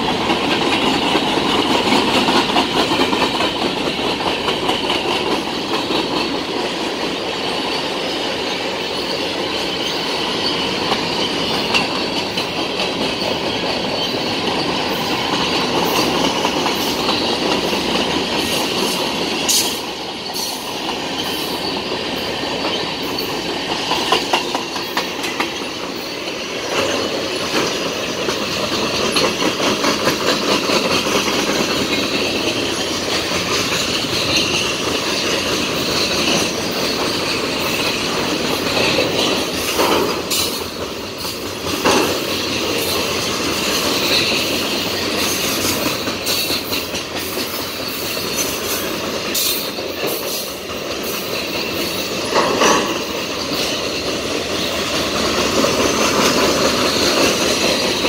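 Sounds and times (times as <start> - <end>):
train wheels clattering on rails: 0.0 - 58.0
high wheel squeal: 5.3 - 58.0.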